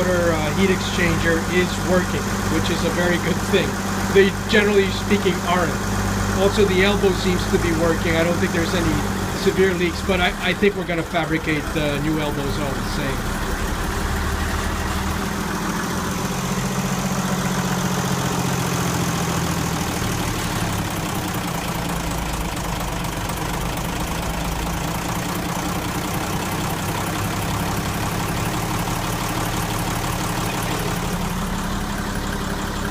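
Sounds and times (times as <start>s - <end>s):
marine diesel engine running: 0.0s - 32.9s.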